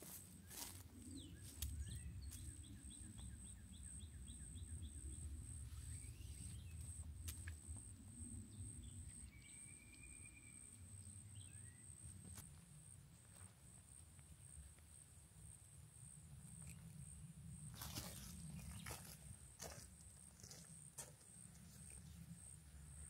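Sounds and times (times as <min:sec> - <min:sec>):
faint low rumble: 0:00.0 - 0:23.0
high insect whine: 0:00.0 - 0:23.0.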